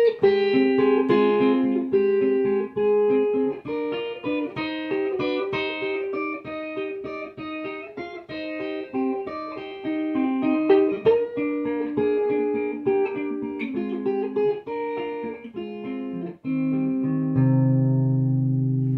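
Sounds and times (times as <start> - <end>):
fingerpicked electric guitar: 0.0 - 18.9.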